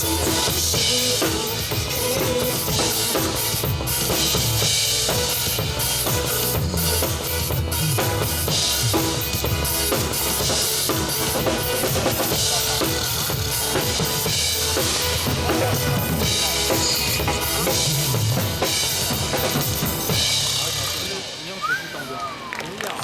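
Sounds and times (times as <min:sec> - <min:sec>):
drum kit beat: 0:00.0 - 0:21.7
pop band playing: 0:00.0 - 0:23.0.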